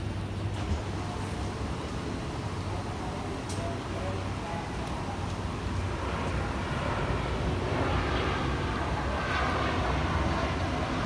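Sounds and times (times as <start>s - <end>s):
wheels rumbling on rail: 0.0s - 9.0s.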